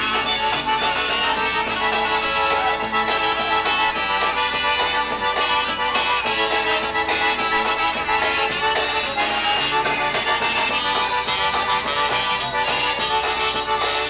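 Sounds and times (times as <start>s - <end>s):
polka band with accordion: 0.0s - 14.0s.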